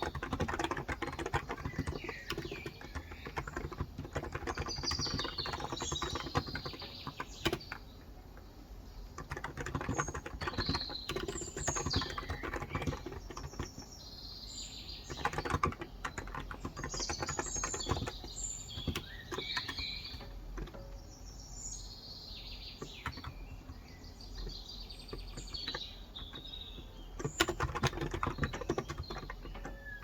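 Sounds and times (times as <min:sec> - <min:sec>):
keyboard typing: 0:00.0 - 0:07.9, 0:09.0 - 0:13.9, 0:15.0 - 0:21.0, 0:22.8 - 0:30.0
birds chirping: 0:00.0 - 0:30.0.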